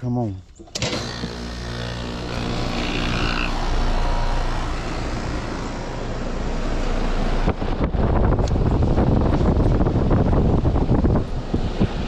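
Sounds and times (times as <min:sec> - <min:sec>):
compressor hum: 0:00.5 - 0:12.0
fan rushing air: 0:00.8 - 0:12.0.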